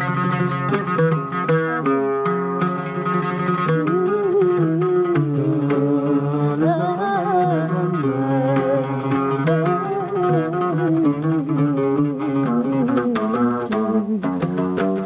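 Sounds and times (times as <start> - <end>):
instrumental ensemble: 0.0 - 15.0
oud playing: 0.0 - 15.0
sustained wavering melody: 2.6 - 15.0.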